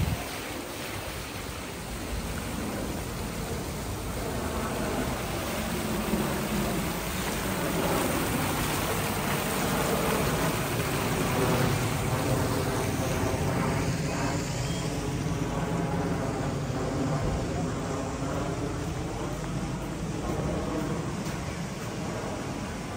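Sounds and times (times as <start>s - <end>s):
fountain water splashing: 0.0s - 22.9s
low hum: 2.0s - 22.9s.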